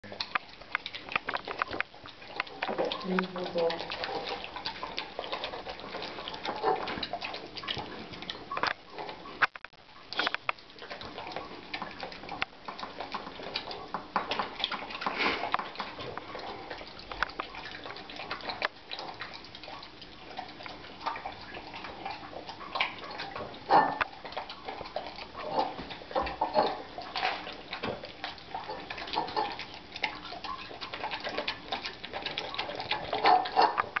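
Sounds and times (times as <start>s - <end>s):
dog chewing and slurping: 0.0s - 34.0s.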